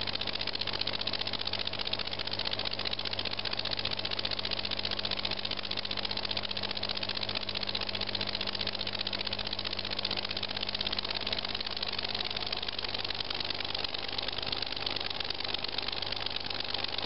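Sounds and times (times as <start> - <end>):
model engine ticking clatter: 0.0 - 17.0
steady low hum: 0.0 - 17.0.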